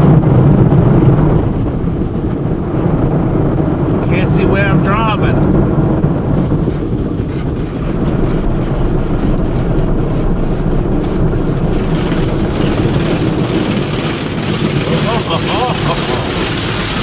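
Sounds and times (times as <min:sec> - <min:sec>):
car wash equipment running: 0:00.0 - 0:17.0.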